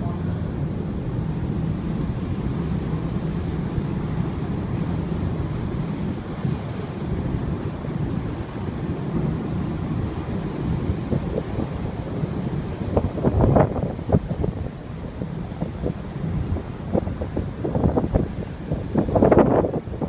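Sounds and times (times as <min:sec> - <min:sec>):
low hum from ship: 0:00.0 - 0:20.0
sea wash: 0:00.0 - 0:20.0
wind on microphone: 0:00.0 - 0:20.0.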